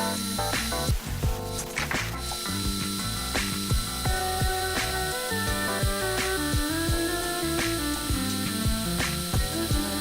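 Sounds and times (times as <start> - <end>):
electronic kick drum beat: 0.0 - 10.0.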